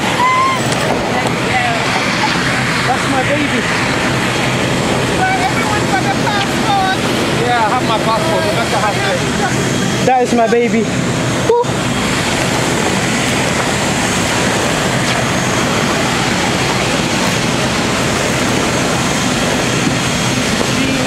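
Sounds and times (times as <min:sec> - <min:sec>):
loud jet engine roar: 0:00.0 - 0:21.0.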